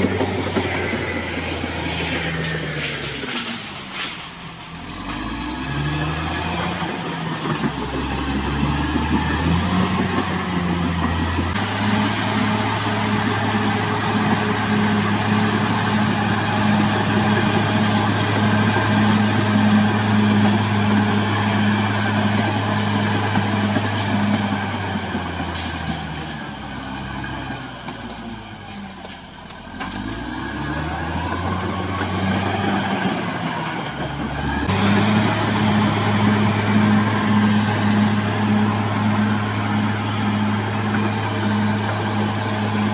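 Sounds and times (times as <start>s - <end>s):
bulldozer diesel engine under load: 0.0s - 42.9s.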